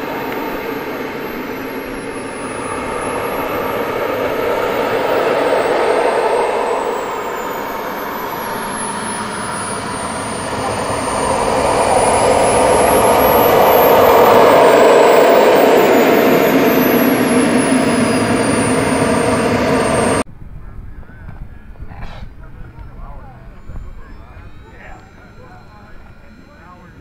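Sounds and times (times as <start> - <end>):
model jet turbine whistling: 0.0 - 20.2, 22.2 - 27.0.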